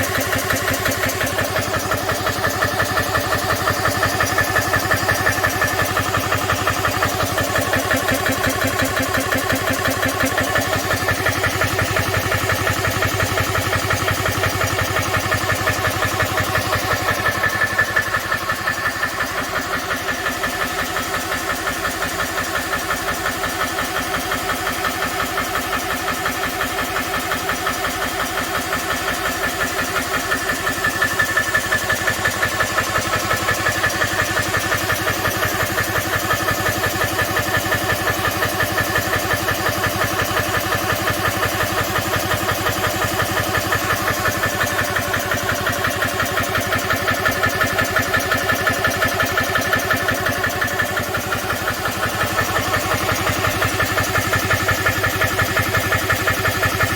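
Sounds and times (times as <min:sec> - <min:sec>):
air compressor pump pulsing: 0:00.0 - 0:56.9.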